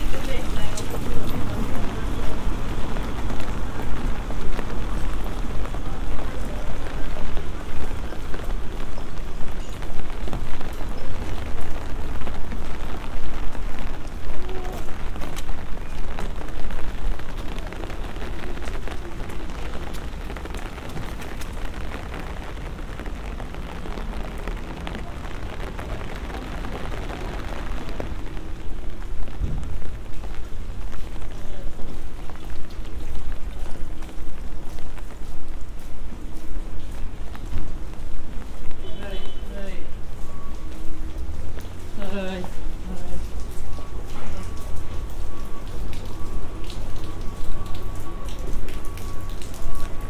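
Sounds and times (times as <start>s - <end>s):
rain on wet pavement: 0.0s - 50.0s.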